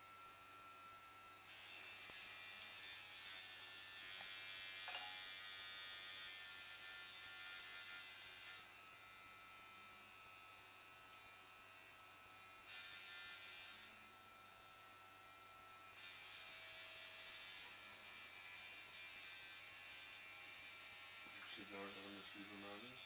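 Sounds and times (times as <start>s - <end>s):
tattoo machine buzzing: 0.0s - 23.0s.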